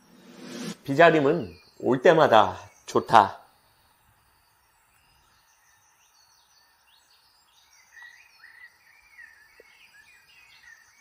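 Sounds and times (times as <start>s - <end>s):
small birds chirping: 0.0s - 11.0s
soft steady background hiss: 0.0s - 11.0s.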